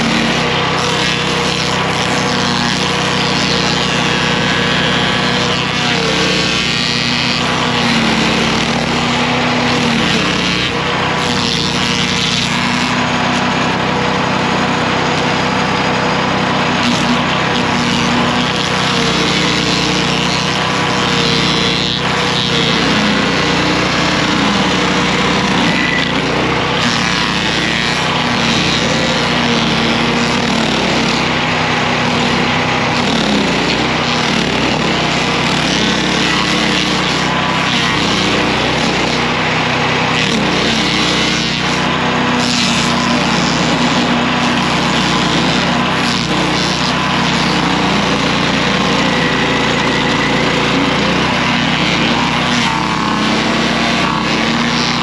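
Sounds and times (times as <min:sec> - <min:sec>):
small gasoline engine running: 0:00.0 - 0:55.0
stump grinding noise: 0:00.0 - 0:55.0.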